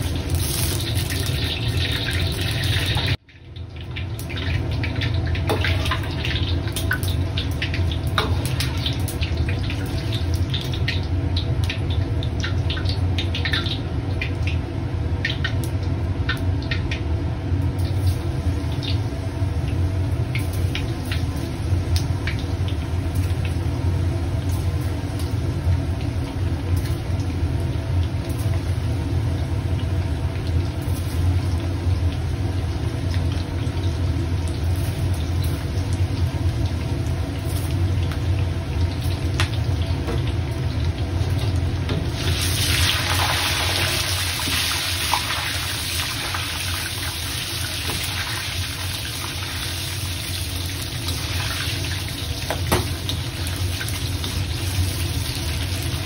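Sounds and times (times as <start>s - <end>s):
bright frying hiss: 0.0s - 3.2s, 3.9s - 16.9s, 17.5s - 56.0s
gas burner rumble: 0.0s - 56.0s
oil sizzling and bubbling: 0.0s - 56.0s.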